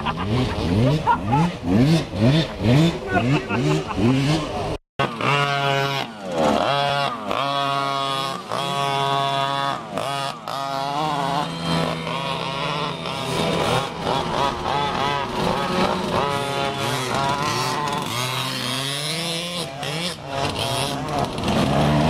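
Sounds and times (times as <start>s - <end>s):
small two-stroke engines revving: 0.0s - 22.0s.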